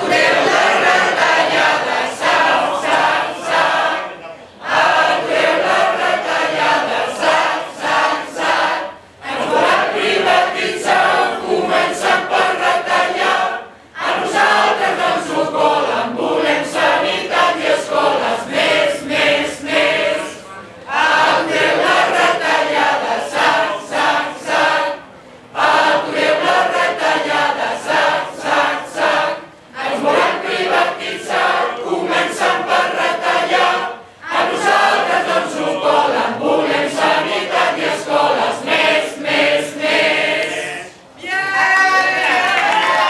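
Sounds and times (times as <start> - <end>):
group singing a carol: 0.0 - 41.2.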